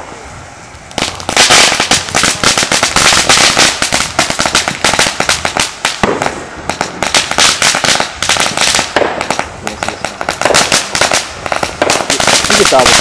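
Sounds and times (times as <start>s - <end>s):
firework crackling: 0.0s - 13.0s
firework hissing: 0.0s - 13.0s.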